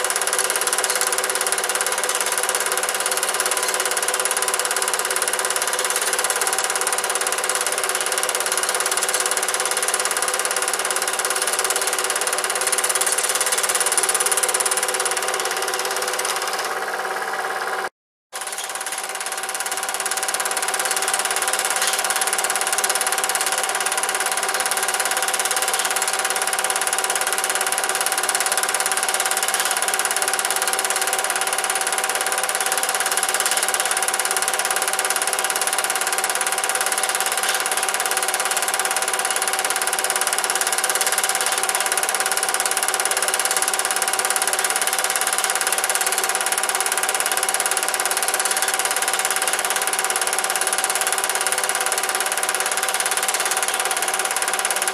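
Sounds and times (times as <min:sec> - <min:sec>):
film projector whirring and clattering: 0:00.0 - 0:54.9.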